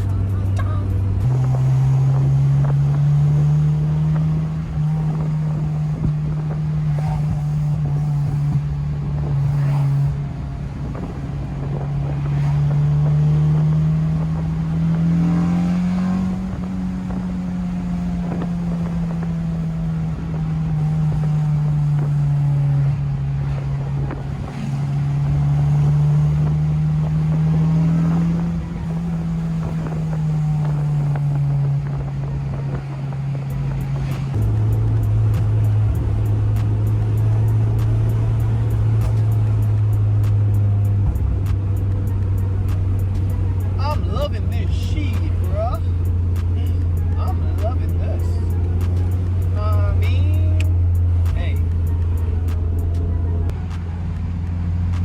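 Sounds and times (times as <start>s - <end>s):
car engine and exhaust: 0.0s - 55.0s
road and wind noise: 0.0s - 55.0s.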